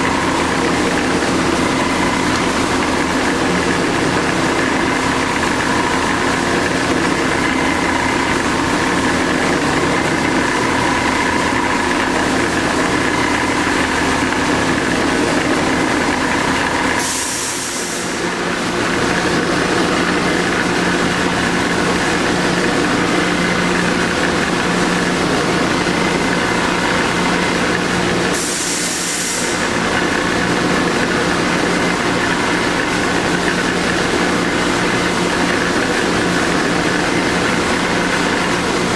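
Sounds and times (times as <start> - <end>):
lathe motor hum: 0.0 - 38.9.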